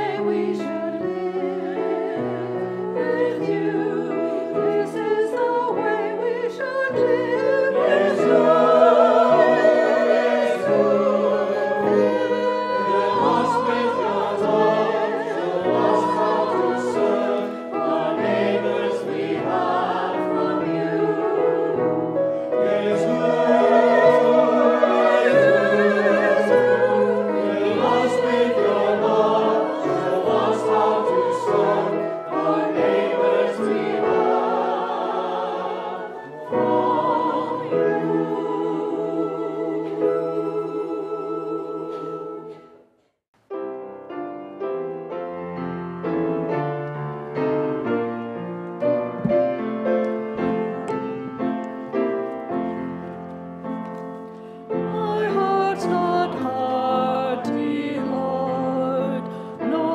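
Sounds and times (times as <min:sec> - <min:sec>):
mixed choir singing: 0:00.0 - 0:42.9, 0:54.7 - 0:59.9
grand piano accompaniment: 0:00.0 - 0:59.9.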